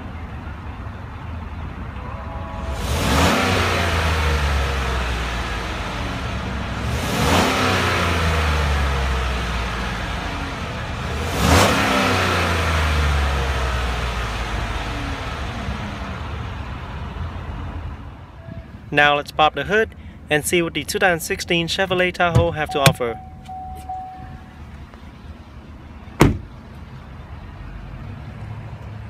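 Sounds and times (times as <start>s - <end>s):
car engine idling and revving: 0.0s - 18.9s, 19.6s - 29.0s.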